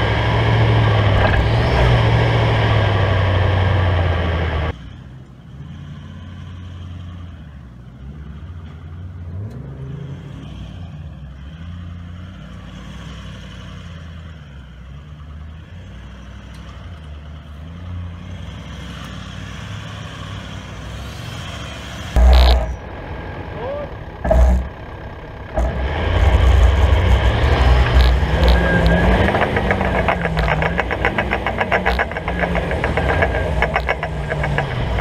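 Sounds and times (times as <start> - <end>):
vehicle engine revving at low speed: 0.0 - 35.0.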